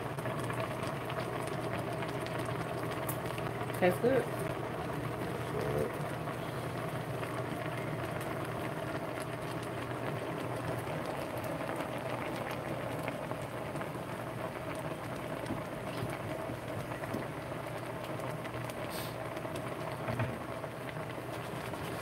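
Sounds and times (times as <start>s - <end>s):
steady low hum: 0.0s - 18.9s
broth boiling in a pot: 0.0s - 22.0s.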